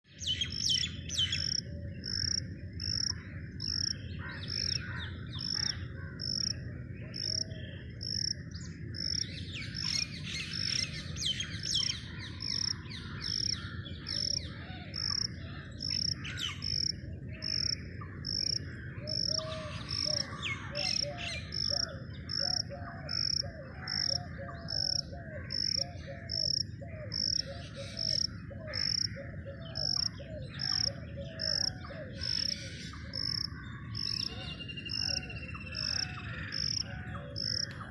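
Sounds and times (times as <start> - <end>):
birds singing: 0.0 - 37.9.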